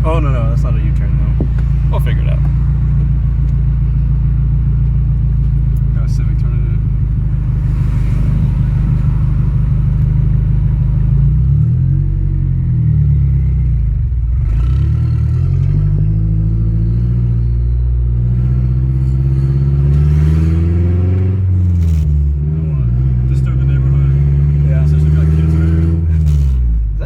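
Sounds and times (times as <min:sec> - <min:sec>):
loud car engine revving: 0:00.0 - 0:27.0.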